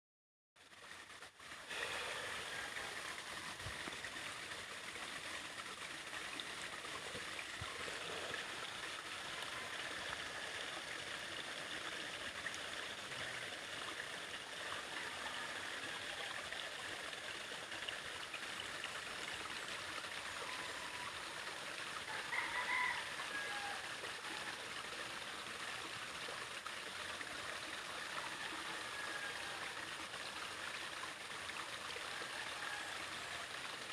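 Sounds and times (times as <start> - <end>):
brook water flowing: 0.6 - 33.9.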